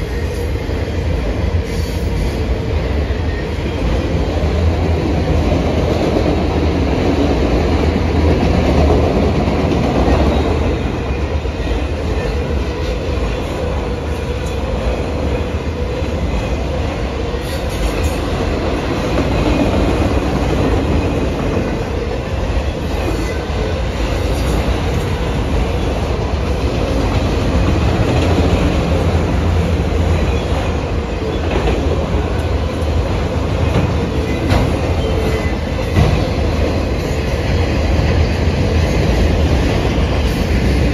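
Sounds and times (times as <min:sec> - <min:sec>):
train wheels rumbling on rails: 0:00.0 - 0:40.9
clickety-clack over rail joints: 0:01.2 - 0:40.9.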